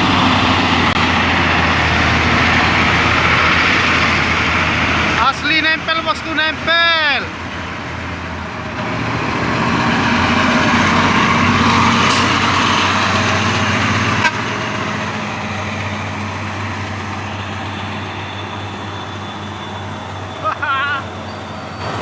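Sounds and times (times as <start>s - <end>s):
diesel truck engines labouring: 0.0s - 22.0s.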